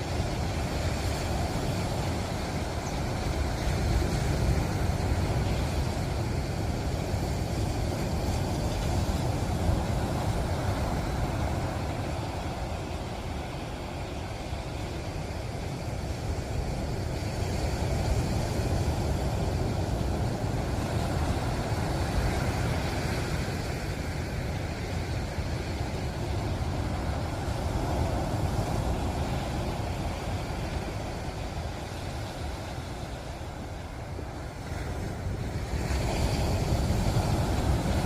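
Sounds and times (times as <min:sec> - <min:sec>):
ocean surf washing ashore: 0:00.0 - 0:38.0
wind rumble on microphone: 0:00.0 - 0:38.0.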